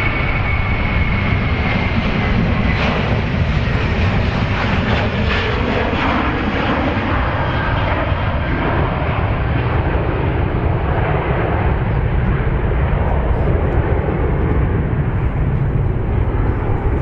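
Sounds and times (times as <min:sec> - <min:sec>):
airliner engines roaring: 0:00.0 - 0:17.0.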